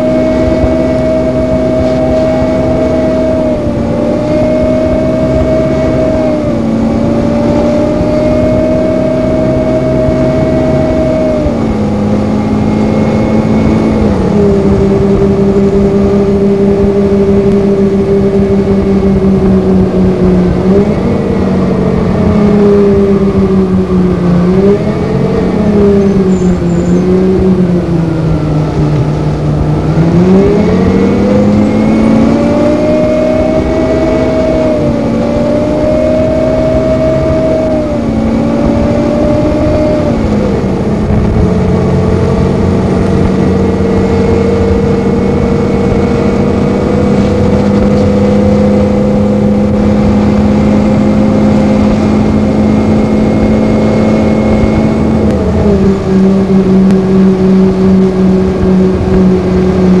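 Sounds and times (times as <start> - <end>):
bus cooling fan whine: 0.0 - 60.0
diesel engine: 0.0 - 60.0.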